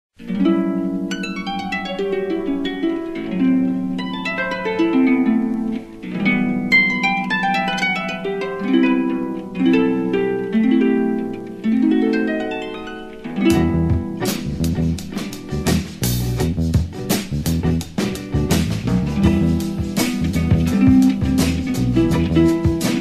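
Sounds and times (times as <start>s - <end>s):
jazz harp music: 0.2s - 23.0s.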